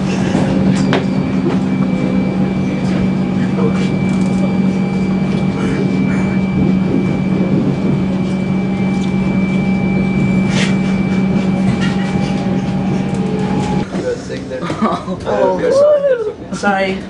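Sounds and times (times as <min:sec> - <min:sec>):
faint high whine: 0:00.0 - 0:13.9
electrical hum: 0:00.0 - 0:14.1
train interior drone: 0:00.0 - 0:17.0.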